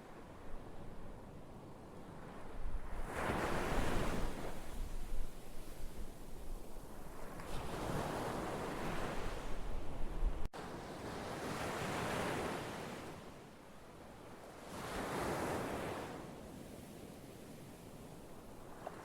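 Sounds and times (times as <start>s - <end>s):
ocean waves washing in and receding: 2.0s - 5.9s, 6.8s - 13.6s, 14.2s - 19.0s.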